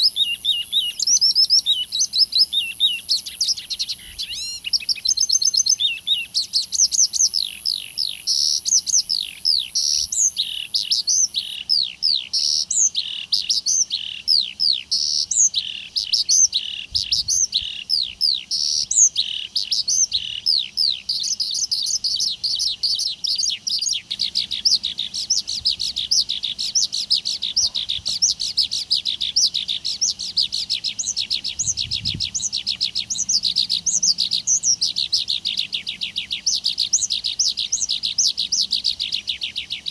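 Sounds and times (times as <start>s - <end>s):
high bird trill: 0.0s - 39.9s
small birds chirping: 0.0s - 39.9s.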